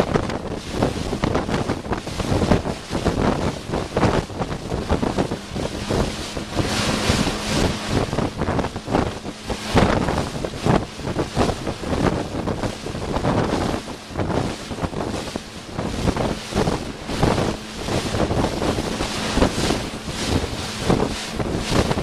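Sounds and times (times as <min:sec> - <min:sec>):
choppy water rushing: 0:00.0 - 0:22.0
wind buffeting microphone: 0:00.0 - 0:22.0.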